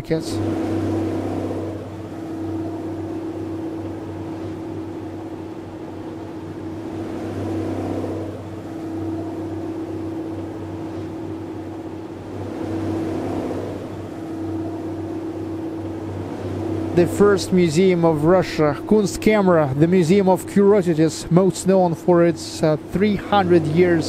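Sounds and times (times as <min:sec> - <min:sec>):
boat engine humming: 0:00.0 - 0:24.0
water wash: 0:00.0 - 0:24.0.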